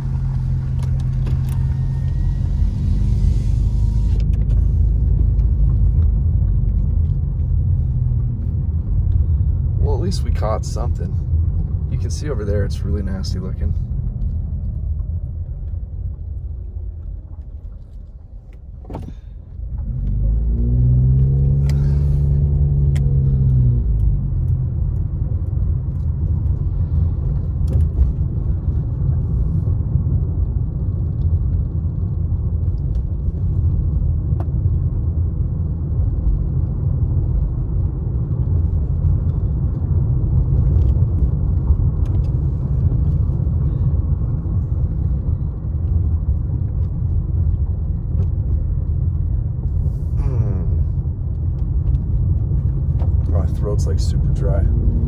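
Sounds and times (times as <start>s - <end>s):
engine and road noise in car: 0.0s - 55.0s.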